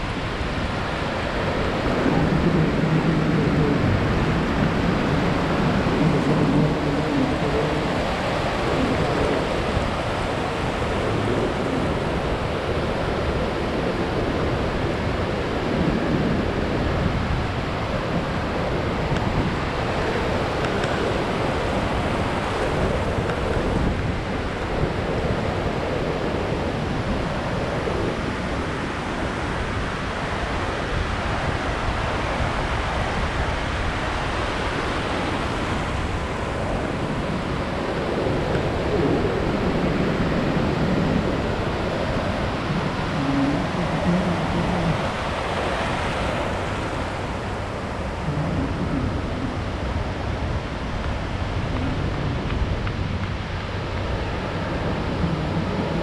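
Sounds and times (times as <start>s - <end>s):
ocean surf washing on beach: 0.0s - 56.0s.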